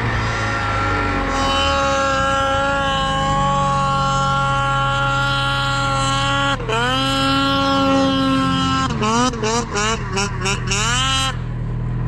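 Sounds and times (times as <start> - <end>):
snowmobile engine droning: 0.0 - 12.0.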